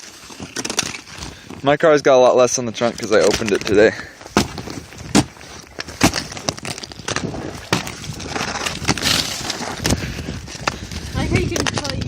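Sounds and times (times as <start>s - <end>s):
snow crust cracking and crunching: 0.0s - 12.0s.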